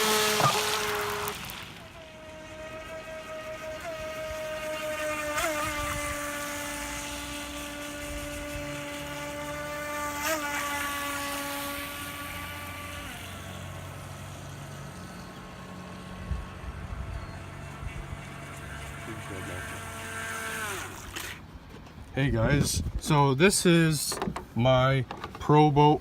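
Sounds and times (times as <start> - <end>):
model boat electric motors whining: 0.0 - 22.0.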